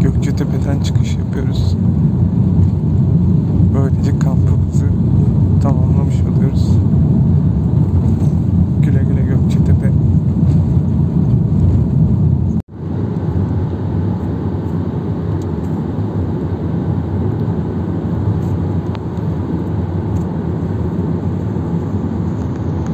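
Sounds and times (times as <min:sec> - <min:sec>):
road and engine rumble: 0:00.0 - 0:22.9.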